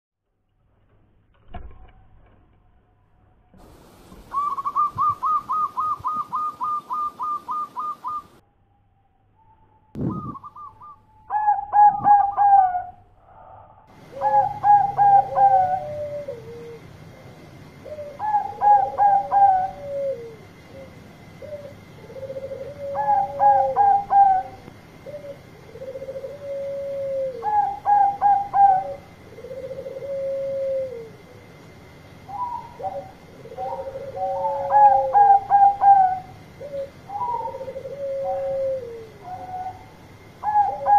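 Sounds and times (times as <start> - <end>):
dove cooing: 4.2 - 8.4, 10.0 - 31.6, 32.2 - 40.9.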